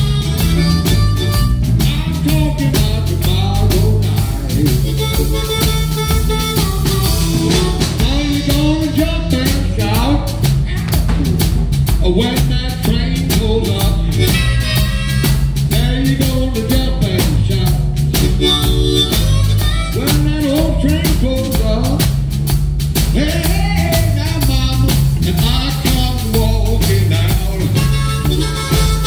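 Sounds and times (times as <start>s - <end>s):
harmonica wailing: 0.0s - 11.4s, 13.5s - 21.4s, 23.6s - 29.0s
drum kit: 0.0s - 29.0s
electric bass guitar: 0.0s - 29.0s.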